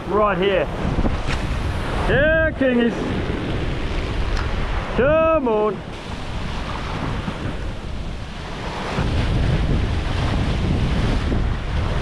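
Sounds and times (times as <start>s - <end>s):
ocean surf washing in: 0.0s - 12.0s
wind buffeting microphone: 0.0s - 12.0s.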